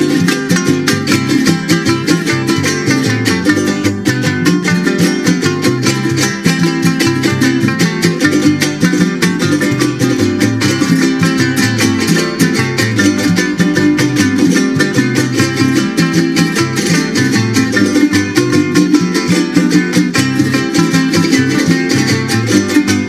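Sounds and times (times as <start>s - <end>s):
bass line: 0.0s - 23.0s
strummed string ensemble: 0.0s - 23.0s.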